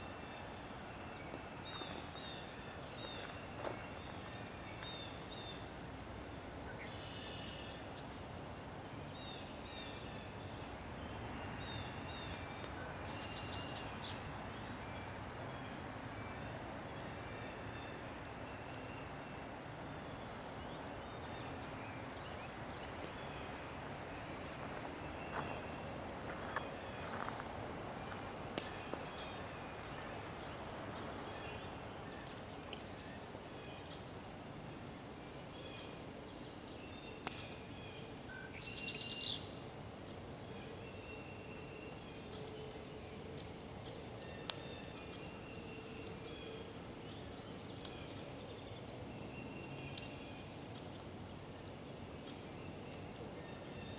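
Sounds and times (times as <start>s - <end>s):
outdoor background hiss: 0.0s - 53.9s.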